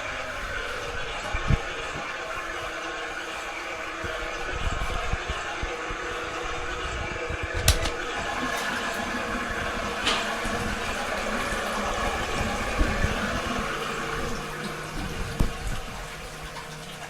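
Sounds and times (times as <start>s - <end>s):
toilet flushing: 0.0s - 17.0s.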